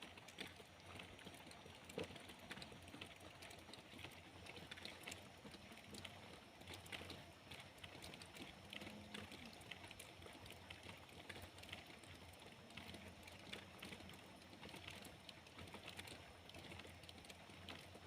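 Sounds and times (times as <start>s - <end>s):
raindrops ticking on a surface: 0.0s - 18.0s
soft steady rain hiss: 0.0s - 18.0s.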